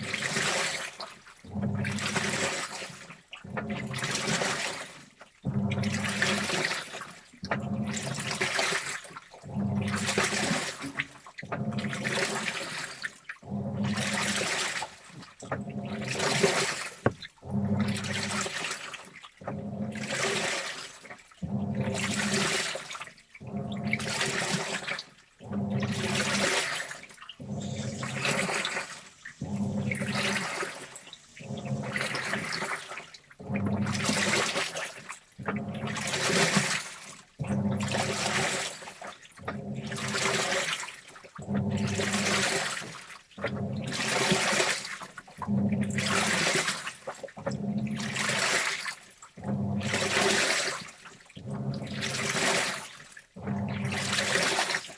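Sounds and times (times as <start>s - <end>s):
washing machine motor humming: 0.0s - 54.9s
water sloshing in washing machine drum: 0.0s - 54.9s.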